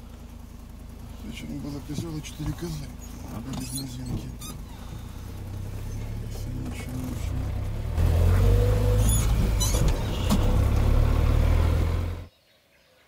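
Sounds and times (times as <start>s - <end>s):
off-road vehicle engine droning: 0.0s - 12.3s.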